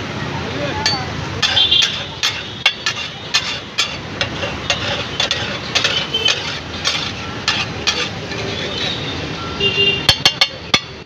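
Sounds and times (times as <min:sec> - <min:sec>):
metal spatula clanking on griddle: 0:00.8 - 0:08.7, 0:10.0 - 0:11.0.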